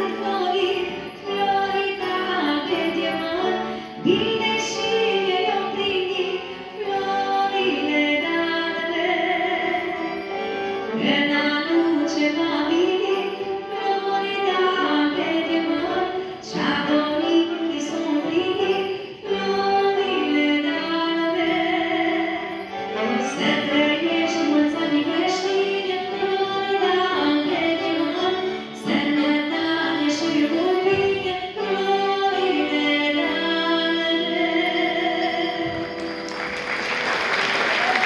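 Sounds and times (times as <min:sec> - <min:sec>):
woman singing a carol: 0:00.0 - 0:10.2, 0:10.9 - 0:36.0
music accompaniment: 0:00.0 - 0:38.0.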